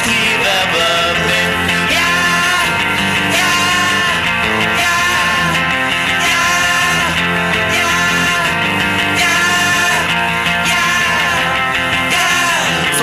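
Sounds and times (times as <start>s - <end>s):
indie rock song with electric guitars: 0.0s - 13.0s.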